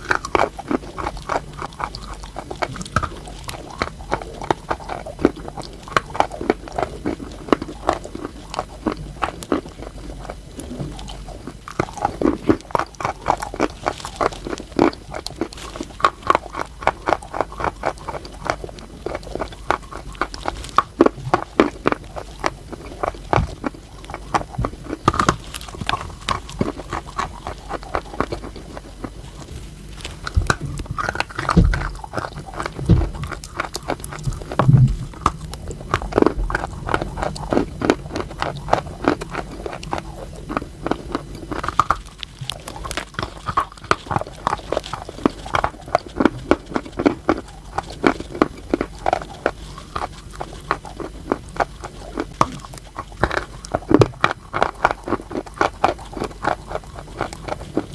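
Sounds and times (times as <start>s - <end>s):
crunching and chewing chalk: 0.0s - 57.9s.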